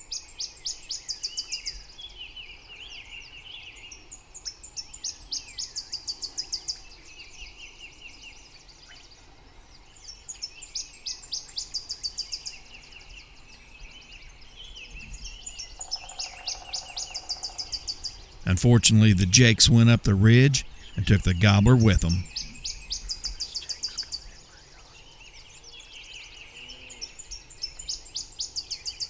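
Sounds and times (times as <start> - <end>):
songbirds singing: 0.0 - 18.4, 22.2 - 29.0.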